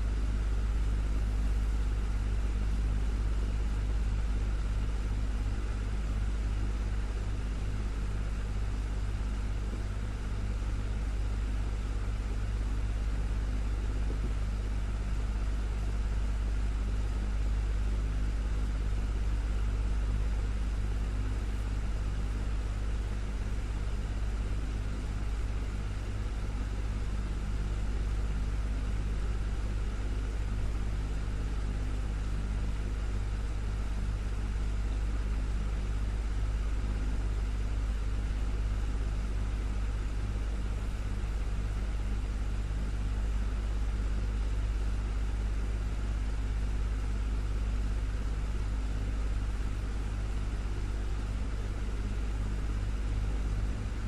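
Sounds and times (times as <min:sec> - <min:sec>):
desktop fan humming: 0:00.0 - 0:54.0.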